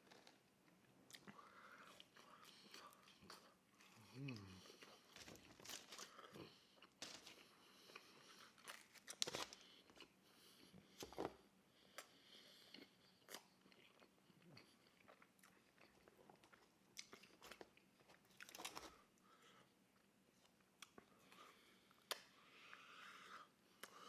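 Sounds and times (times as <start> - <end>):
chewing and crunching pizza: 0.0 - 24.0.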